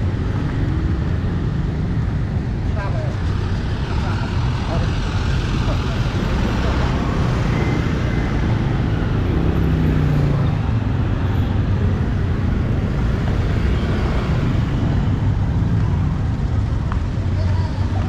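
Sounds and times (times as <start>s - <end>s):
motor traffic: 0.0s - 18.0s
vehicle engine: 0.0s - 18.0s.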